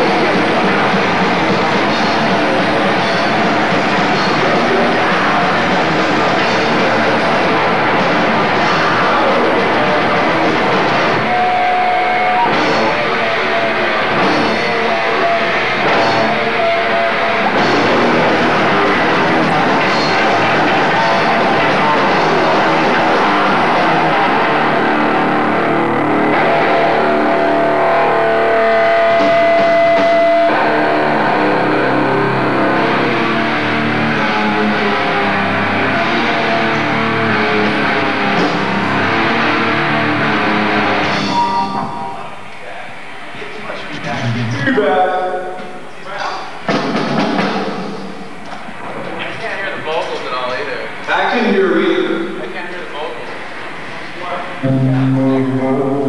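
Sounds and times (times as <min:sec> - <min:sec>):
drum kit: 0:00.0 - 0:42.3, 0:45.5 - 0:50.3
distorted electric guitars: 0:00.0 - 0:49.4, 0:53.2 - 0:56.0.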